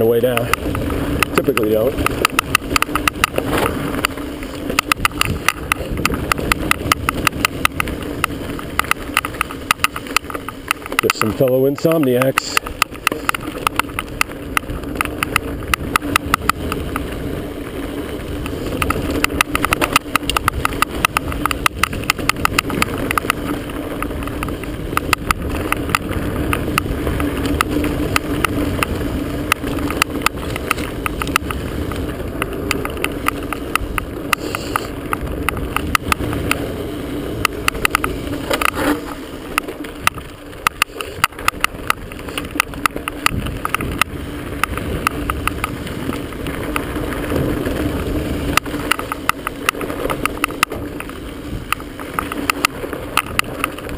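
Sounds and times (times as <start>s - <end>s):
tyres rumbling on dirt: 0.0s - 53.9s
camera rattling on mount: 0.3s - 11.4s, 12.1s - 53.9s.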